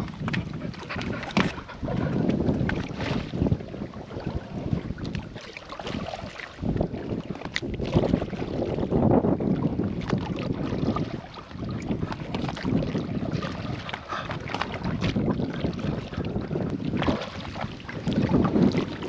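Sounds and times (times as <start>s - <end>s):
water sloshing around canoe: 0.0s - 19.0s
wind buffeting microphone: 0.0s - 19.0s.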